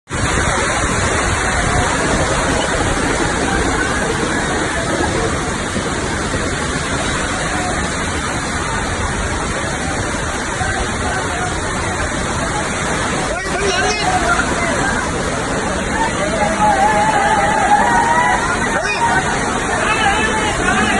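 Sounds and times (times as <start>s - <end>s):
heavy rain falling: 0.1s - 20.9s.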